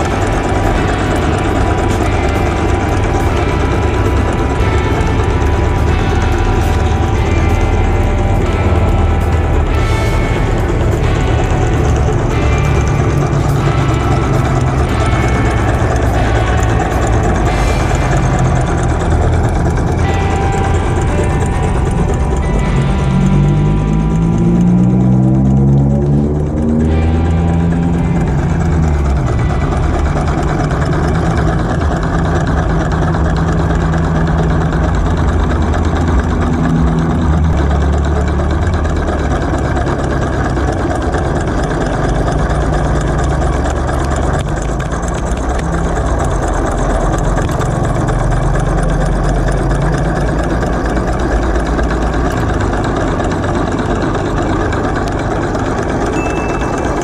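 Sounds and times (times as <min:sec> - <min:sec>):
solenoid engine buzzing and clattering: 0:00.0 - 0:57.0.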